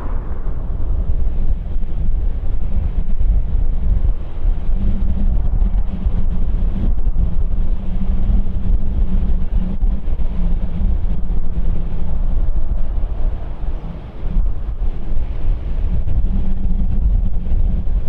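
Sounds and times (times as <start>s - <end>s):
faint steady hum: 0.0s - 18.0s
wind buffeting microphone: 0.0s - 18.0s.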